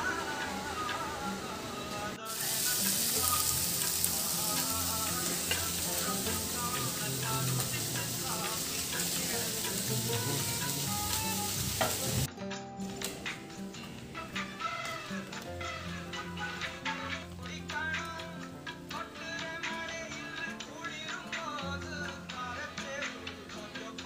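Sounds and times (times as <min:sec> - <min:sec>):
background music: 0:00.0 - 0:24.0
food sizzling in a pan: 0:00.0 - 0:24.0.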